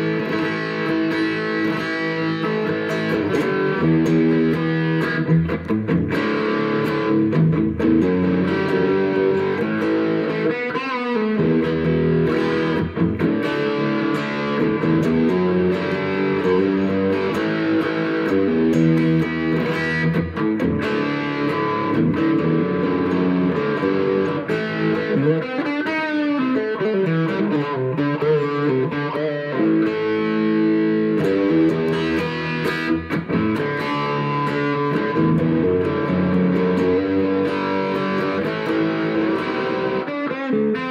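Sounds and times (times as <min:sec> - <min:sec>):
electric guitar through amplifier: 0:00.0 - 0:40.9.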